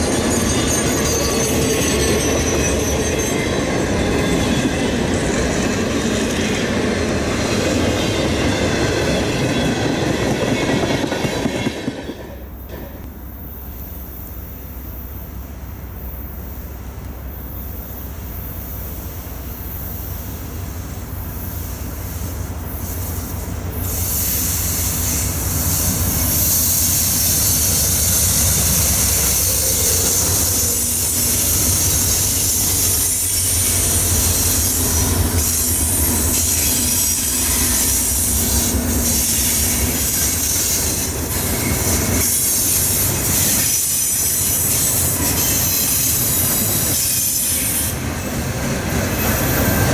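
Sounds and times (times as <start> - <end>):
train rumbling past: 0.0 - 49.9
train wheels squealing: 0.0 - 49.9.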